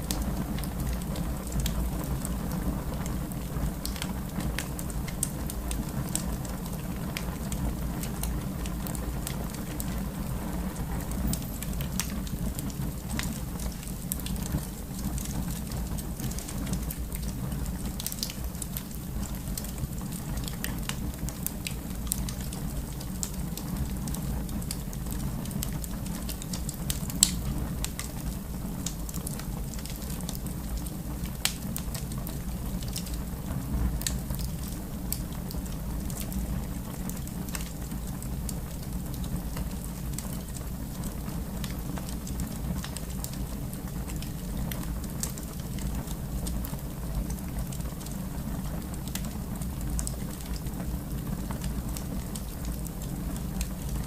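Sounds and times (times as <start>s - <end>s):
fire crackling and popping: 0.0s - 54.0s
fire rumbling in fireplace: 0.0s - 54.0s.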